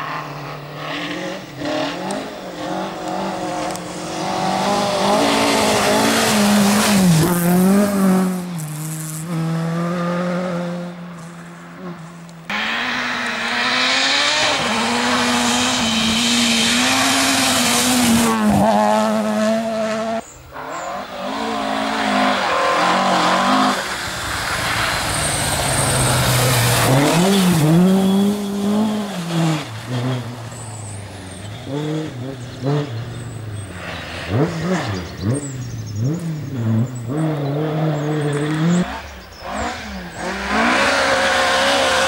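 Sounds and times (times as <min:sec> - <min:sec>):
rally car engines revving hard: 0:00.0 - 0:42.0.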